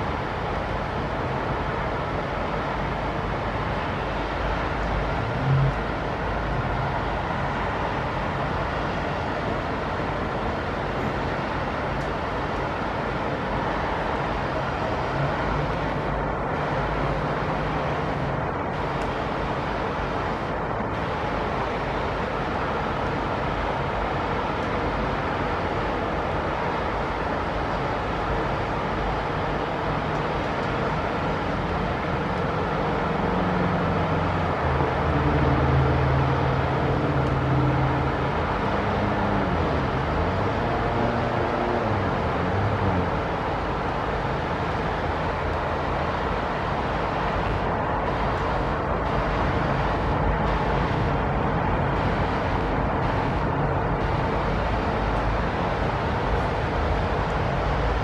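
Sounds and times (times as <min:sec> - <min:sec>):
continuous hiss: 0:00.0 - 0:58.0
distant traffic rumble: 0:00.0 - 0:58.0
faint engine hum: 0:00.0 - 0:58.0.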